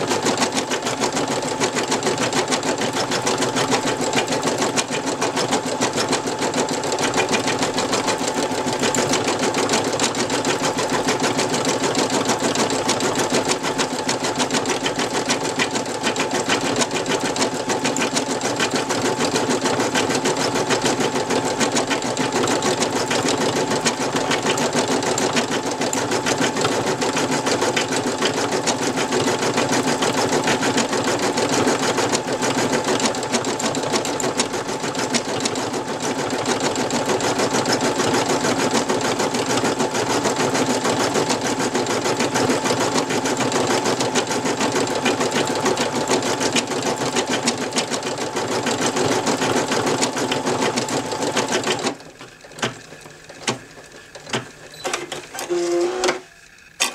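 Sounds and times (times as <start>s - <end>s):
embroidery machine needle clatter: 0.0s - 56.9s.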